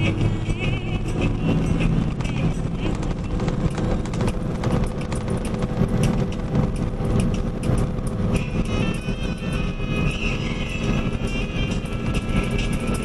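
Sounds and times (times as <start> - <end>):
rapid clicks and rattles: 0.0 - 13.0
truck engine and road rumble: 0.0 - 13.0.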